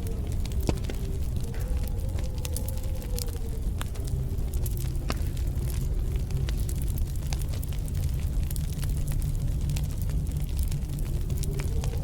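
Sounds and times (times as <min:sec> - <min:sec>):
low rumble of wind: 0:00.0 - 0:12.0
wood fire crackling: 0:00.0 - 0:12.0.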